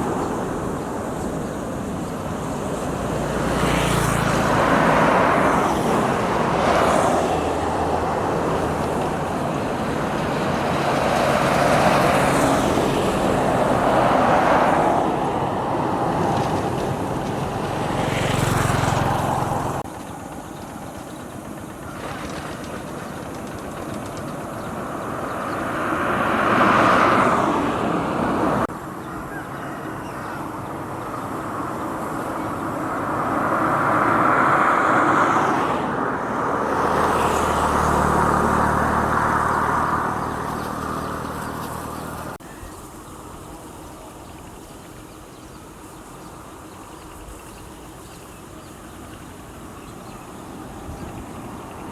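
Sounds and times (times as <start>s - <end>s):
road traffic going by: 0.0s - 51.9s.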